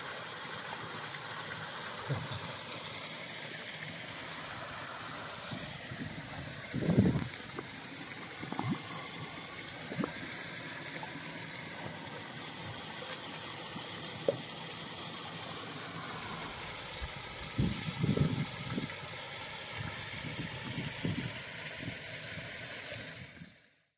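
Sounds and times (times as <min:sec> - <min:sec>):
mountain stream rushing: 0:00.0 - 0:23.0
water splashes: 0:00.0 - 0:23.6.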